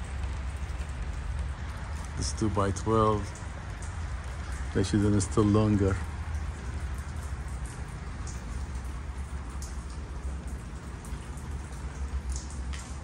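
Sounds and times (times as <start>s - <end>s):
drip ticks: 0.0s - 13.0s
low steady rumble: 0.0s - 13.0s
rain hiss: 0.0s - 13.0s.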